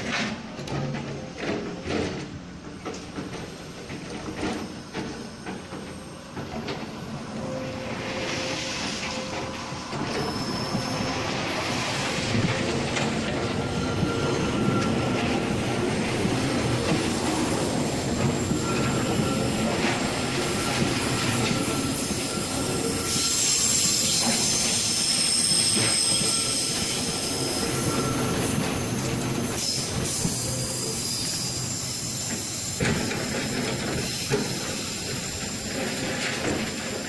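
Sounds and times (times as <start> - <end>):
train wheel rumble: 0.0 - 37.0
high-pitched wheel and brake squeals: 4.3 - 37.0.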